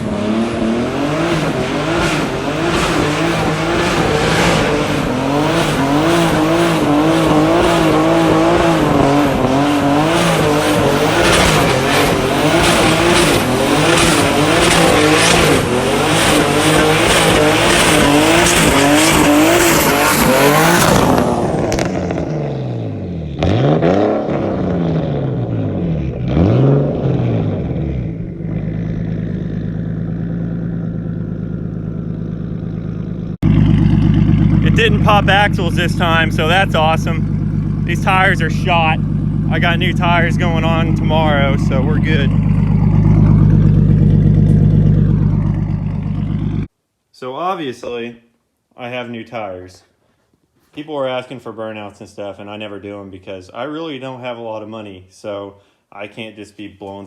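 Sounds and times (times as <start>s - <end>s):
car engine revving: 0.0s - 46.7s.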